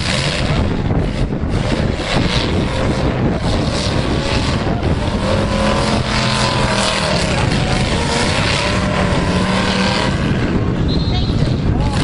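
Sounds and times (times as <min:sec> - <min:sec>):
car engines revving loudly: 0:00.0 - 0:12.0
engine holding steady tone: 0:00.0 - 0:12.0
steady wash of noise: 0:00.0 - 0:12.0.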